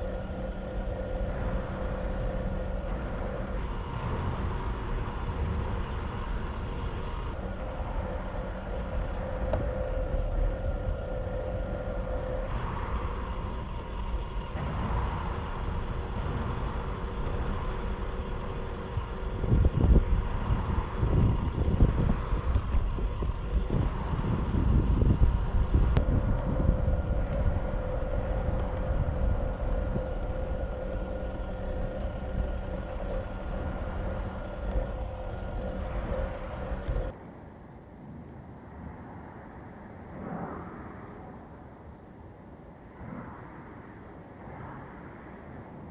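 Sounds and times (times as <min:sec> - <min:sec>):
low rumbling and knocks: 0:00.0 - 0:37.1
electric motor and gearbox whine: 0:00.0 - 0:37.2.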